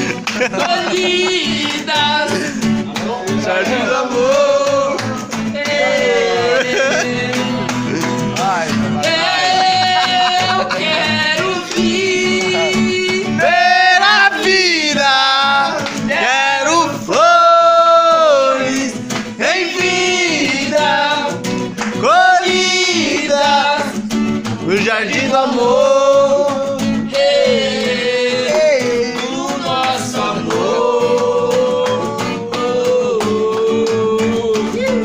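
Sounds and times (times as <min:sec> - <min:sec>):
acoustic guitar strumming: 0:00.0 - 0:35.0
man singing: 0:00.0 - 0:35.0.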